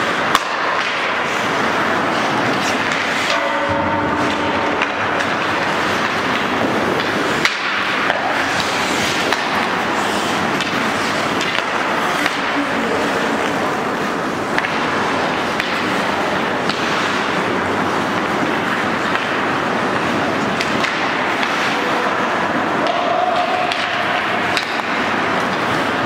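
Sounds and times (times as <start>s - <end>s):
clacks of sticks and puck: 0.0s - 26.0s
skate blades scraping ice: 0.0s - 26.0s.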